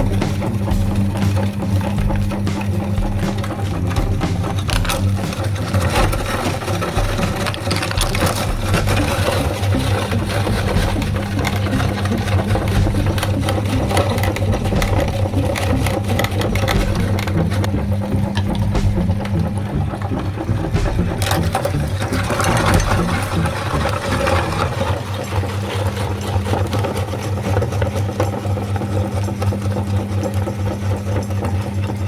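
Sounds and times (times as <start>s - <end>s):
hard candy crackling being crushed: 0.0s - 32.0s
meat grinder motor humming: 0.0s - 32.0s.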